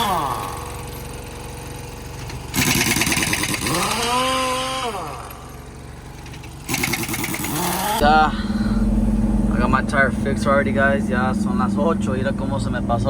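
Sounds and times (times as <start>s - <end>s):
rattling motor revving: 0.0s - 13.0s.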